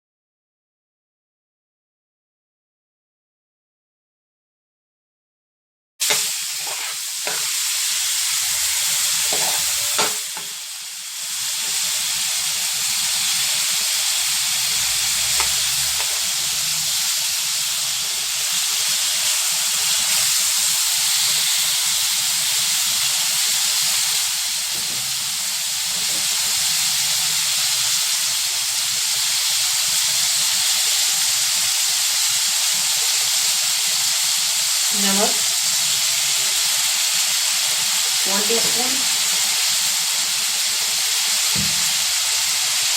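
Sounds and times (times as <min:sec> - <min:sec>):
food sizzling in a pan: 0:06.0 - 0:42.9.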